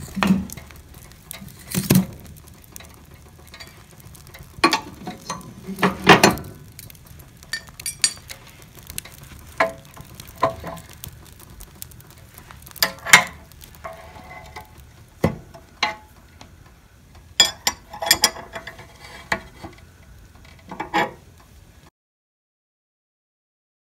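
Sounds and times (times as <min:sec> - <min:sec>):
faint steady hiss: 0:00.0 - 0:21.9
wood logs crackling and popping: 0:00.0 - 0:21.9.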